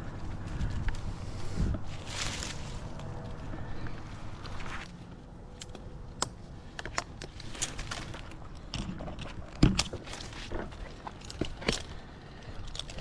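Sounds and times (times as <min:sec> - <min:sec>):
gear clicks and rustles: 0:00.0 - 0:13.0.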